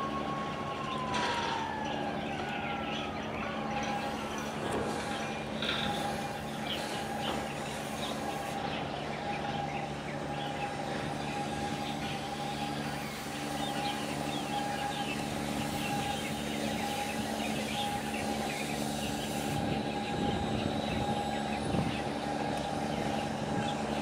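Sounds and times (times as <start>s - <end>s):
ship engines droning: 0.0s - 24.0s
bird chirps: 3.8s - 24.0s.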